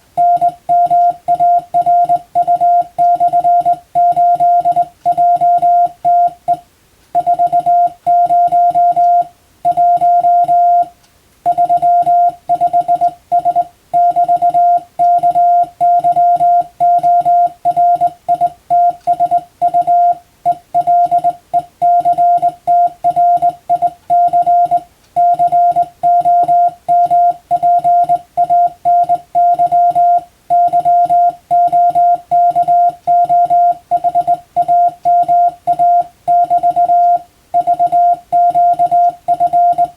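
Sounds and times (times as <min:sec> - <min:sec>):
morse code beeps: 0:00.2 - 0:06.6, 0:07.2 - 0:39.9.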